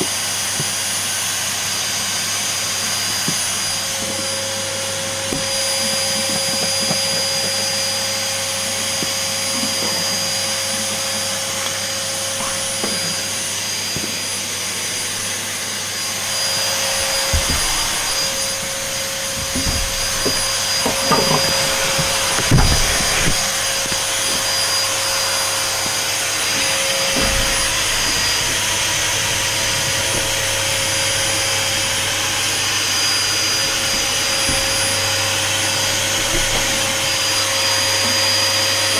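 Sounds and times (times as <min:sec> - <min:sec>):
vacuum cleaner whine: 0:00.0 - 0:38.9.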